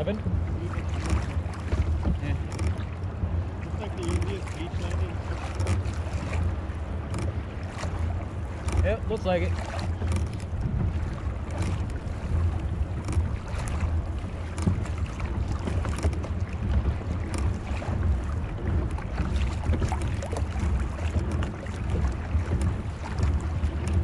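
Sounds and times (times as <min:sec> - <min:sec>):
water splashing around kayak: 0:00.0 - 0:24.0
wind rumbling on microphone: 0:00.0 - 0:24.0
sharp clicks and knocks: 0:00.8 - 0:03.1, 0:03.8 - 0:08.0, 0:08.6 - 0:12.0, 0:12.7 - 0:18.1, 0:18.8 - 0:24.0.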